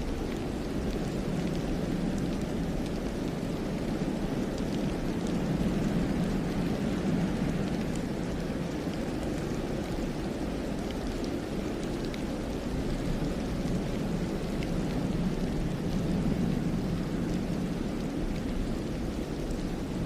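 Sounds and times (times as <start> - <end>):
low wind rumbling: 0.0 - 20.0.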